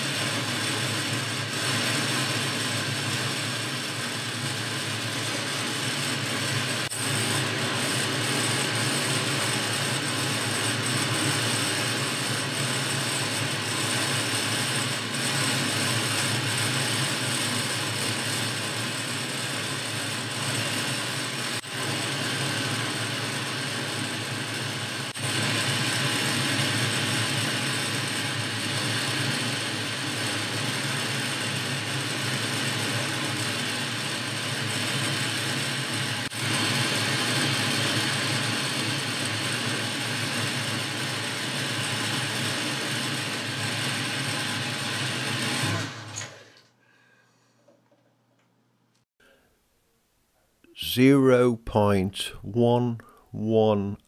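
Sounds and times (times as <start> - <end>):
lathe motor hum and whine: 0.0 - 46.2
lathe tool cutting metal: 0.0 - 46.2.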